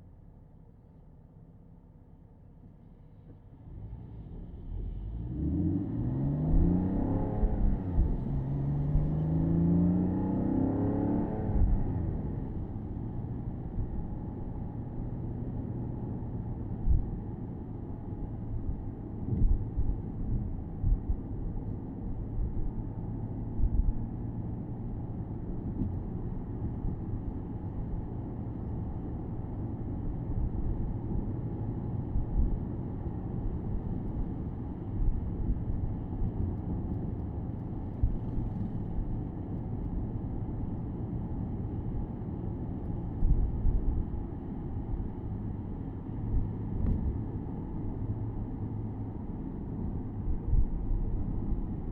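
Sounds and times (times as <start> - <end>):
car engine rumble: 0.0 - 51.9
road noise: 4.9 - 51.9.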